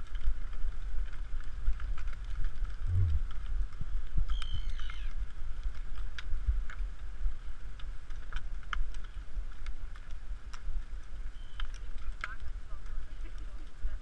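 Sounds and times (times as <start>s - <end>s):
horse hooves clicking: 0.0s - 14.0s
wind rumbling on microphone: 0.0s - 14.0s.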